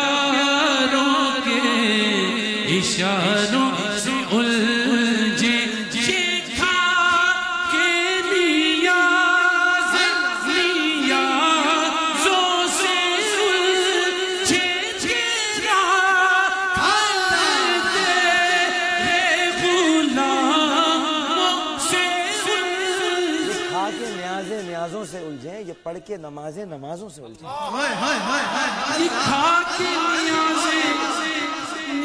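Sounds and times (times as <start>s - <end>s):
man singing a cappella: 0.0s - 24.3s, 27.8s - 32.0s.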